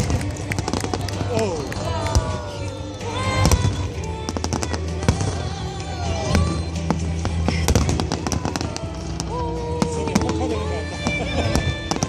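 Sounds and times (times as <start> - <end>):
fireworks bangs and crackles: 0.0 - 12.0
music with low bass: 0.0 - 12.0.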